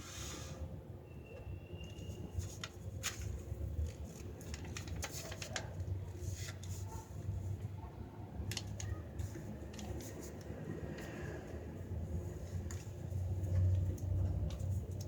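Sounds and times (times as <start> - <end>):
paper crackling and rustling: 2.0 - 7.7, 8.4 - 15.0.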